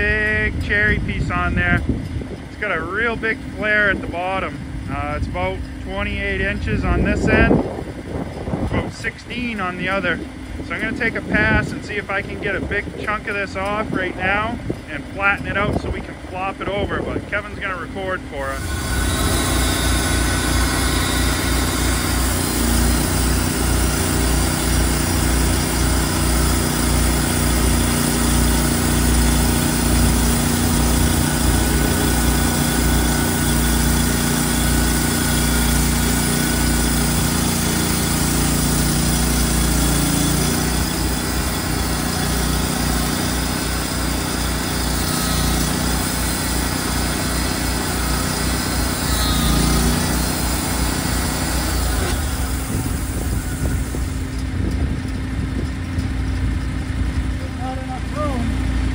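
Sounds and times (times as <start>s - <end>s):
sawmill engine running under load: 0.0s - 58.9s.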